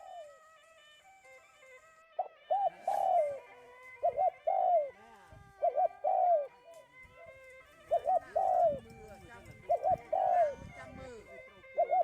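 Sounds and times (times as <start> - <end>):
dove cooing: 0.0 - 0.5, 2.2 - 12.0.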